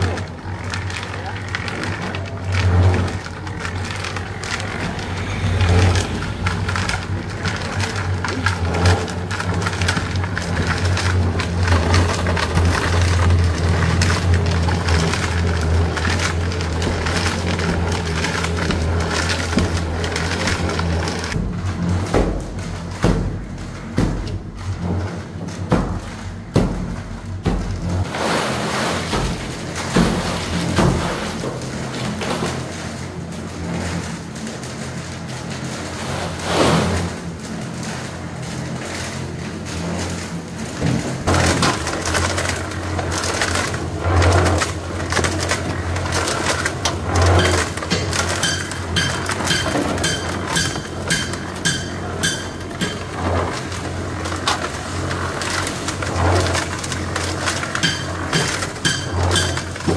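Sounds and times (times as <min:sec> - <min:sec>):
crackling and snapping: 0:00.0 - 0:28.1, 0:29.2 - 0:59.9.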